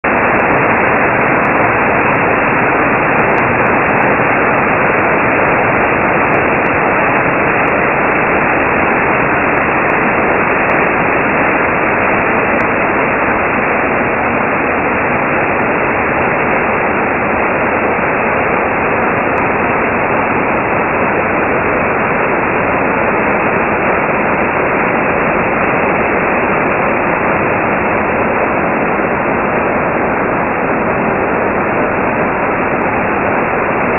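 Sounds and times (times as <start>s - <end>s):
stream rushing over rocks: 0.0s - 33.9s.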